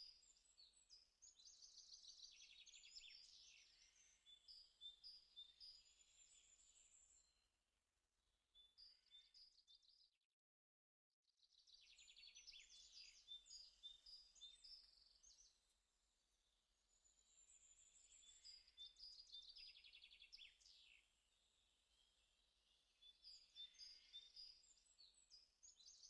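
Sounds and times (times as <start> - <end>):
faint birdsong: 0.0 - 7.6, 8.4 - 10.2, 11.3 - 26.0.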